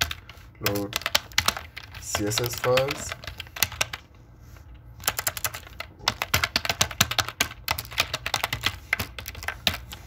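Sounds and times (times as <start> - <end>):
keyboard typing: 0.0 - 4.1, 5.0 - 10.0.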